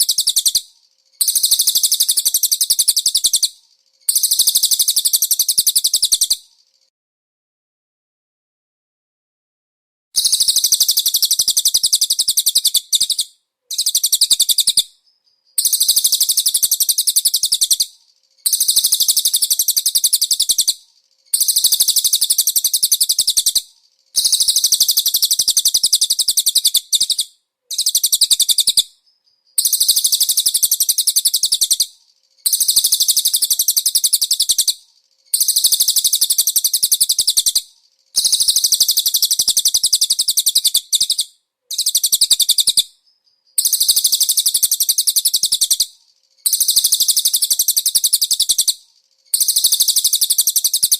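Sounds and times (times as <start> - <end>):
songbird trilling: 0.0 - 6.4, 10.2 - 50.9.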